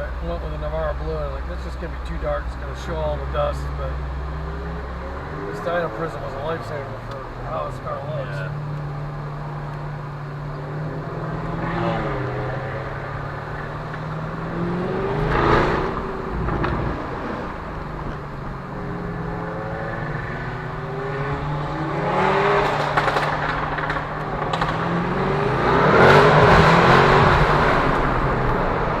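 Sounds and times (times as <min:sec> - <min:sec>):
car engines revving: 0:00.0 - 0:29.0
cars driving past: 0:00.0 - 0:29.0.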